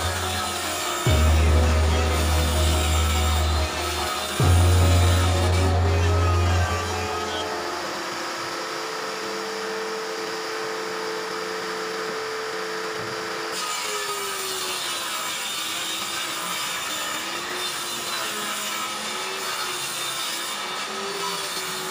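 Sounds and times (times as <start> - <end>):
saw blade cutting wood: 0.0 - 21.9
table saw motor whine: 0.0 - 21.9.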